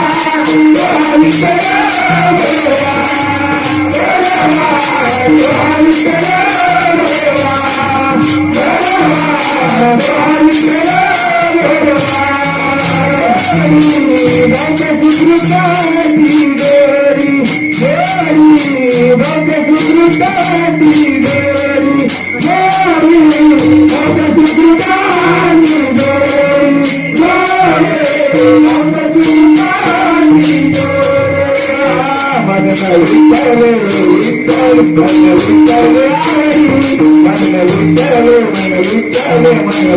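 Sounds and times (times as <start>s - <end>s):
drum beat: 0.0s - 39.9s
hand cymbals jingling: 0.0s - 39.9s
held accompaniment tones: 0.0s - 39.9s
man singing: 0.0s - 39.9s.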